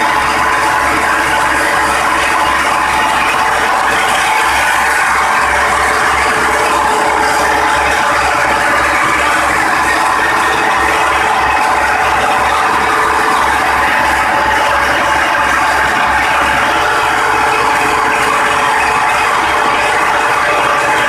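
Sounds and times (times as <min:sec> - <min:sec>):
tractor engine driving a mill: 0:00.0 - 0:21.0.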